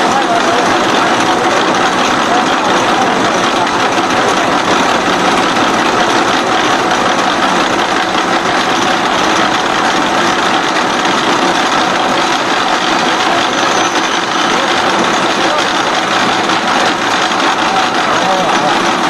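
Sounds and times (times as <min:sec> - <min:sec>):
milling machine cutting steel: 0:00.0 - 0:19.0.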